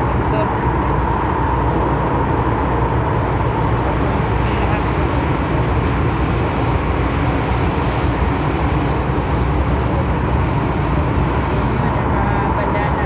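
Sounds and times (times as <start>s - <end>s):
metro train rumble: 0.0s - 13.0s
thin high whine: 2.1s - 13.0s.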